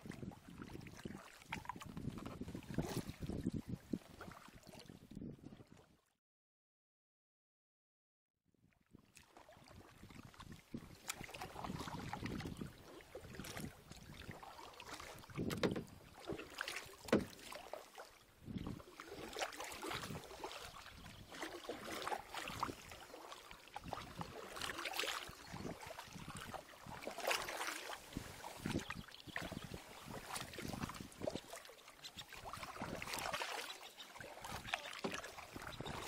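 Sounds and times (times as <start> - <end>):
paddle splashing in water: 0.0 - 3.4, 4.0 - 5.0, 9.0 - 36.0.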